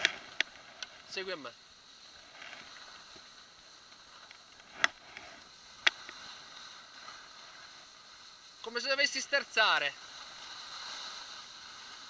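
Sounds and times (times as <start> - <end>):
skis sliding on snow: 0.0 - 12.0.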